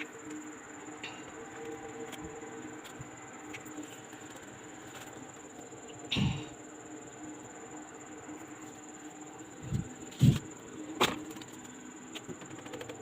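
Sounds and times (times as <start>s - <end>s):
faint high whine: 0.0s - 13.0s
steady low hum: 0.0s - 13.0s.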